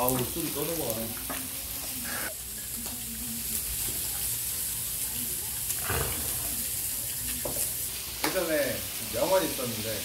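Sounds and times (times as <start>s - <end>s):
meat sizzling on a grill: 0.0s - 10.0s.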